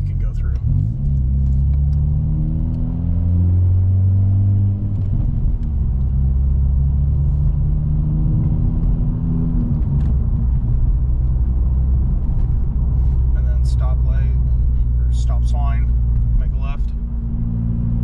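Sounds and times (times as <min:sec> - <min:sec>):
car engine drone from inside cabin: 0:00.0 - 0:18.0.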